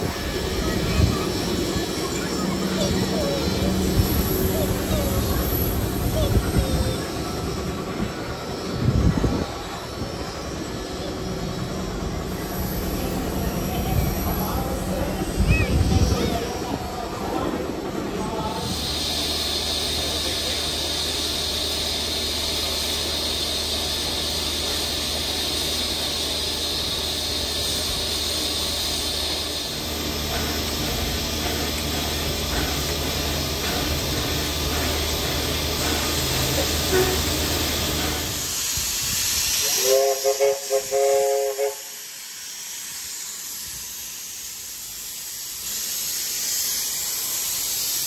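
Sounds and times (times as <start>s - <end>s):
steam hissing: 0.0s - 48.0s.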